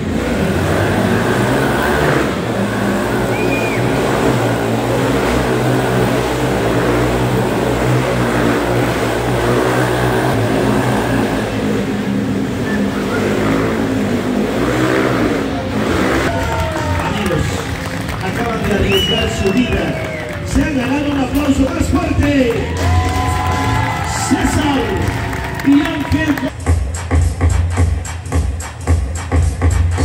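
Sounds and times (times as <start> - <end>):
dirt bike engines running: 0.0 - 26.7.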